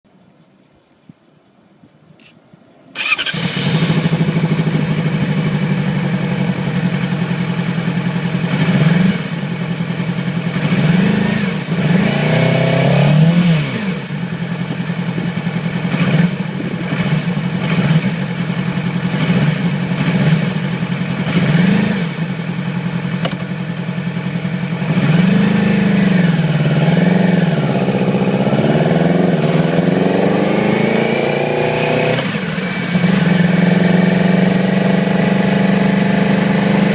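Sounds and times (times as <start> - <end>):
motorcycle engine revving unevenly: 3.0 - 36.9.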